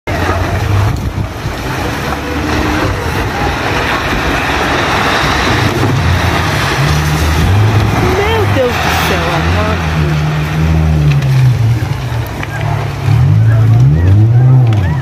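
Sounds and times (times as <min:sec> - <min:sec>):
landslide roaring: 0:00.1 - 0:15.0
low hum: 0:00.1 - 0:15.0.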